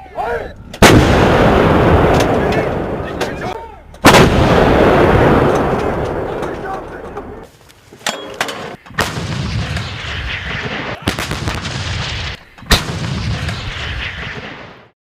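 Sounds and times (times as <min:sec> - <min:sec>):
artillery gun shots with rumble: 0:00.8 - 0:07.3, 0:08.9 - 0:14.9.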